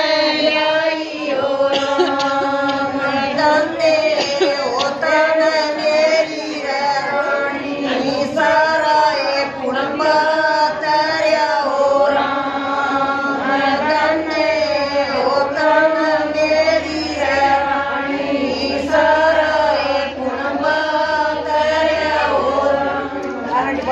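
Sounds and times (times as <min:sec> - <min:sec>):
women singing a devotional chant: 0:00.0 - 0:23.9.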